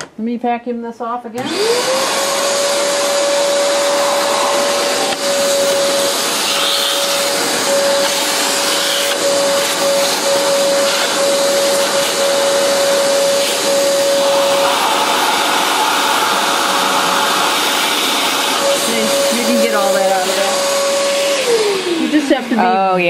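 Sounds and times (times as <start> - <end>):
shop vac running: 1.4 - 23.0.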